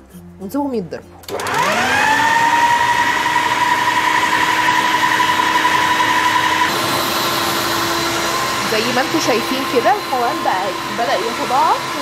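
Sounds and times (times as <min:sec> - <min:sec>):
stand mixer whisk beating: 0:01.3 - 0:12.0.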